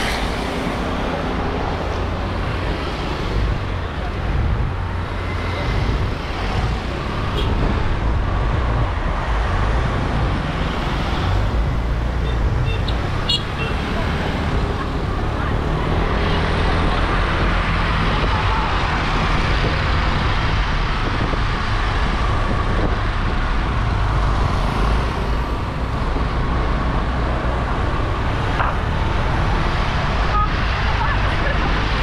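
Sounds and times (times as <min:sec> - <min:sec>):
wind rumble on microphone: 0:01.2 - 0:13.1, 0:14.3 - 0:32.0.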